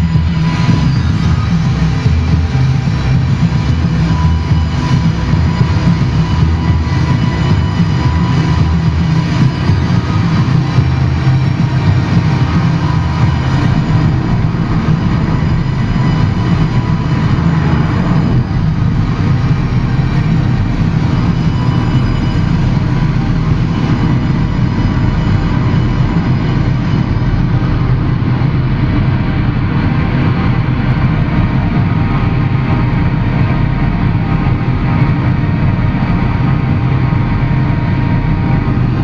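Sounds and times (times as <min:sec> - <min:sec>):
electronic drone music: 0:00.0 - 0:39.0.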